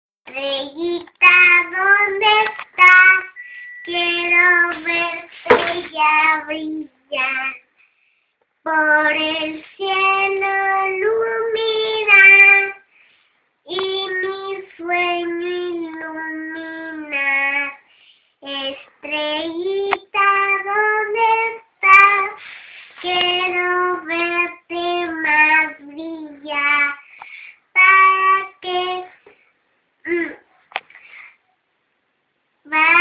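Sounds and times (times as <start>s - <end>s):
young girl singing: 0.3s - 7.8s, 8.6s - 13.0s, 13.6s - 29.4s, 32.6s - 33.0s.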